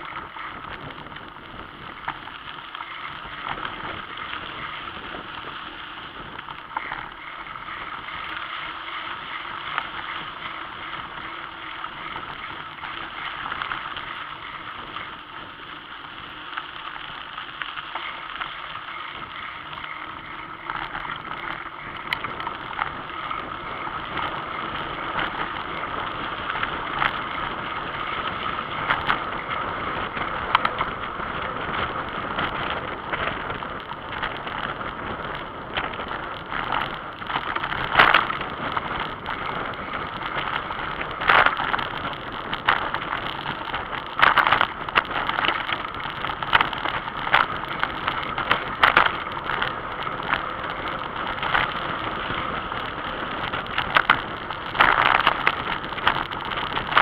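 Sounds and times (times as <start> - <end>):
bike rattling over bumps: 0.0 - 57.0
wind and tyre noise: 0.0 - 57.0.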